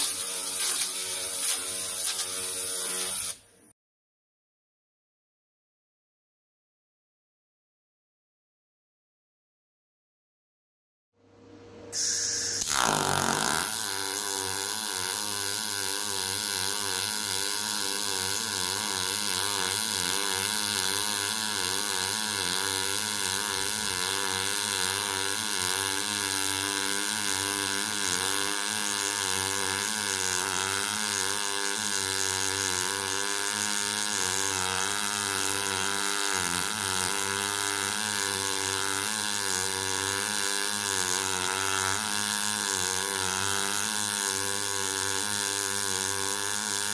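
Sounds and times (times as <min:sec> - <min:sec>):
welding arc buzzing: 0:00.0 - 0:03.7, 0:11.9 - 0:46.9.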